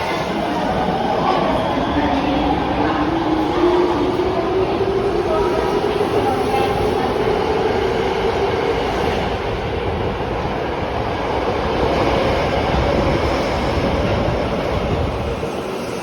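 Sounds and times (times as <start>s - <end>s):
subway train running: 0.0s - 16.0s.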